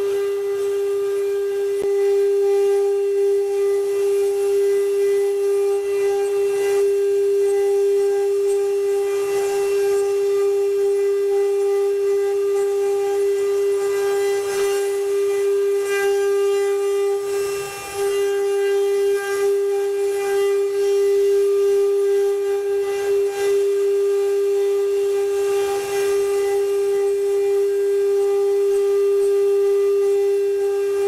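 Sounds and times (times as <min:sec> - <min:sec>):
router spindle whining: 0:00.0 - 0:31.0
wood cutting hiss: 0:00.0 - 0:31.0.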